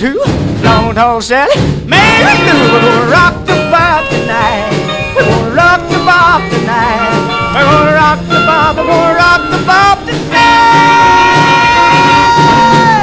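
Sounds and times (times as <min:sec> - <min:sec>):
rockabilly band playing: 0:00.2 - 0:13.0
wavering lead guitar line: 0:02.0 - 0:12.9.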